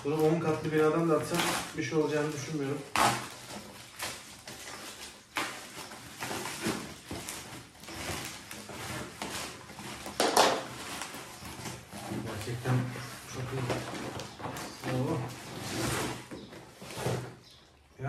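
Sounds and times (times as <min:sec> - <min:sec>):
packaging wrap crinkling: 0:00.0 - 0:17.6.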